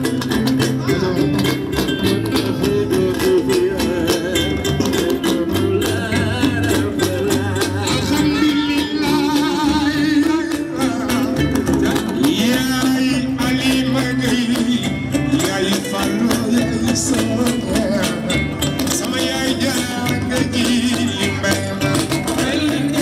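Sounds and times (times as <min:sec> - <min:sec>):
bass: 0:00.0 - 0:23.0
dense hand percussion: 0:00.0 - 0:23.0
guitar: 0:00.0 - 0:23.0
person singing with vibrato: 0:00.0 - 0:23.0.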